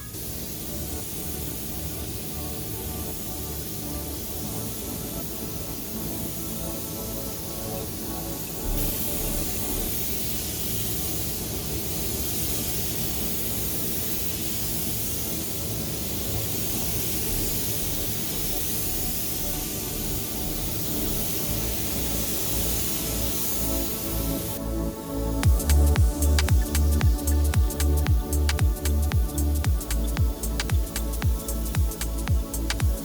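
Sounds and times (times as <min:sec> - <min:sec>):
background music: 0:00.0 - 0:13.3, 0:14.5 - 0:33.0
paint spray gun hissing: 0:00.0 - 0:33.0.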